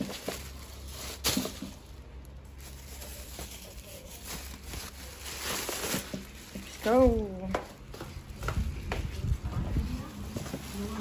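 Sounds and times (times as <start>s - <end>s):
plastic bags rustling: 0.0s - 11.0s.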